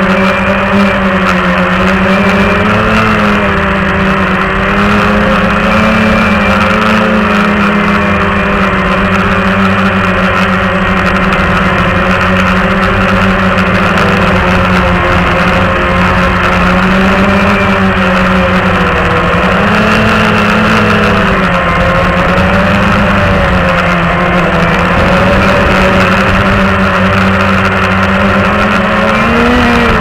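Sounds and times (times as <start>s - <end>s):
quadcopter propellers buzzing: 0.0s - 30.0s.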